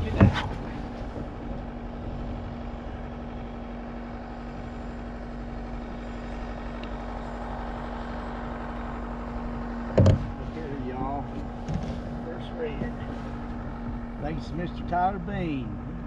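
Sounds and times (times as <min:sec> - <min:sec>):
motor hum: 0:00.0 - 0:16.0.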